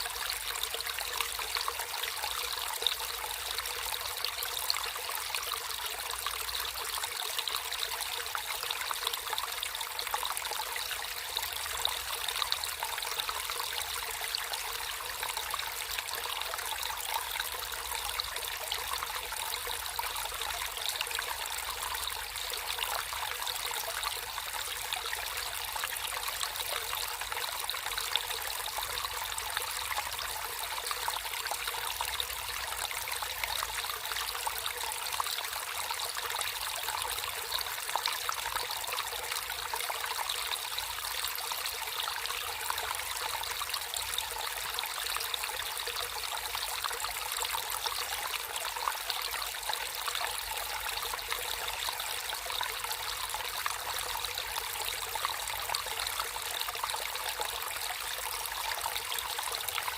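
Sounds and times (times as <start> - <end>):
stream water flowing and trickling: 0.0 - 59.9.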